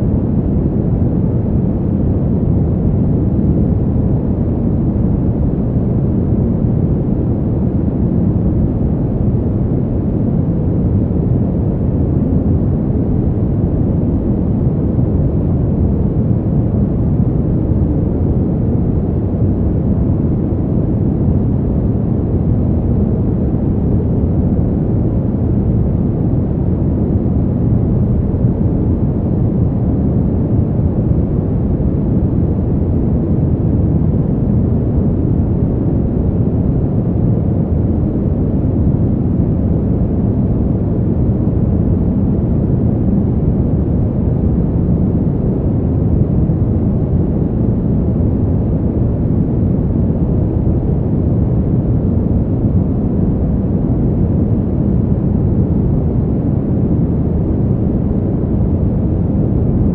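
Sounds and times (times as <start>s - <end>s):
deep steady wind: 0.0s - 59.9s.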